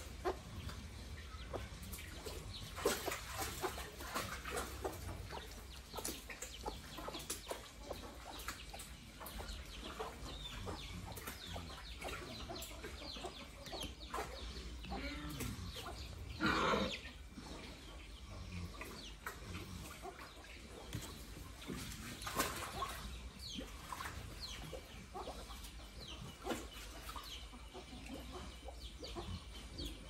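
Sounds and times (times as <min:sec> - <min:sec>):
chicks peeping: 0:00.0 - 0:21.2, 0:22.1 - 0:30.0.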